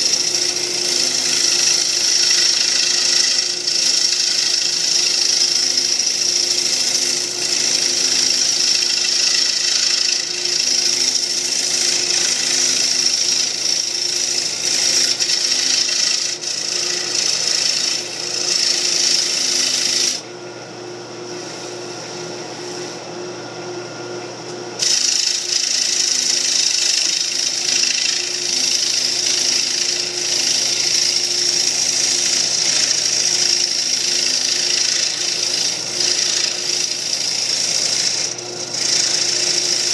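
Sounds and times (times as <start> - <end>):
lathe tool cutting wood: 0.0 - 20.3, 24.8 - 39.9
lathe motor hum: 0.0 - 39.9.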